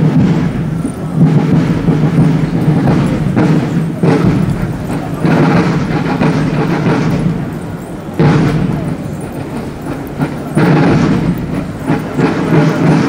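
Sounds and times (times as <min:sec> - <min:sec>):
military march music: 0:00.0 - 0:13.0.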